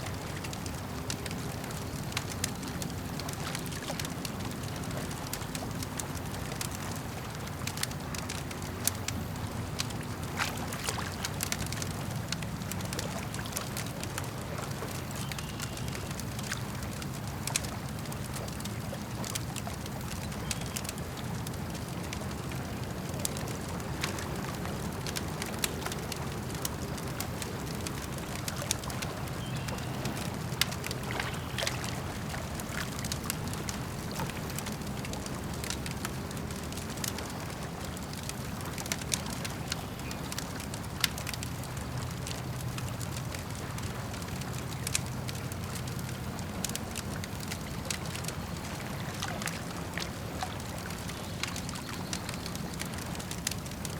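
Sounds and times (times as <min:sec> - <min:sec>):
lake water lapping: 0:00.0 - 0:53.9
campfire crackling and popping: 0:00.1 - 0:53.9.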